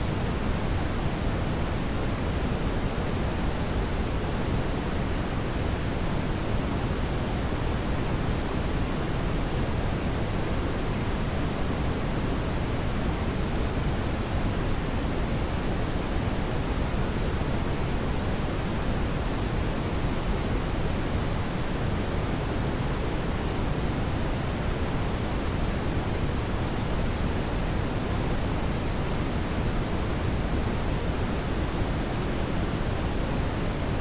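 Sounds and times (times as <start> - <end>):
brown noise rushing hiss: 0.0 - 34.0.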